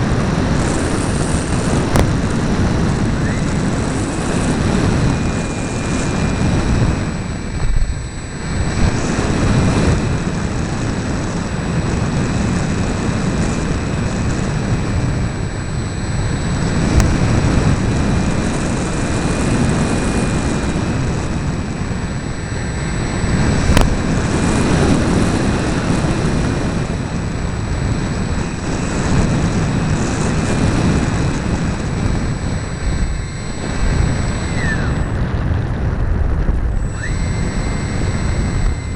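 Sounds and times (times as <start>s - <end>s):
propeller motor whine: 0.0s - 38.9s
wind buffeting microphone: 0.0s - 38.9s.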